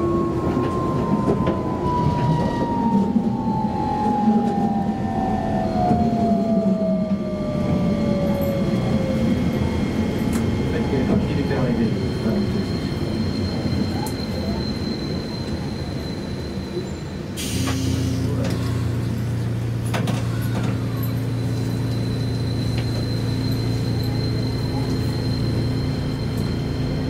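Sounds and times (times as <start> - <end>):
tram low hum: 0.0 - 27.0.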